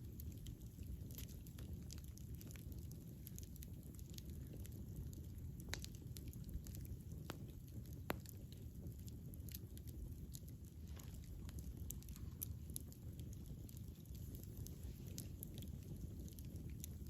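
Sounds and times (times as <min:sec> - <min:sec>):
fire pops and snaps: 0:00.0 - 0:17.0
wood fire crackling: 0:00.0 - 0:17.0.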